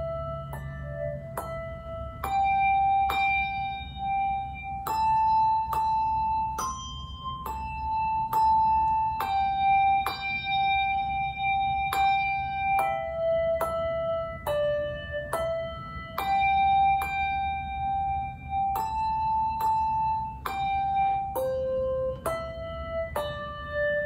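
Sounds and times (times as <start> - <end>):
handbells ringing melody: 0.0 - 24.0.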